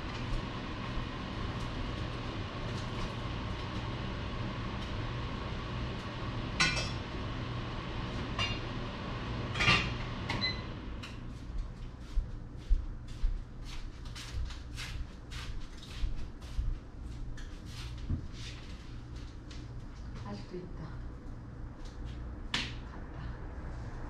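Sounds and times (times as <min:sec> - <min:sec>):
low outdoor hum: 0:00.0 - 0:24.0.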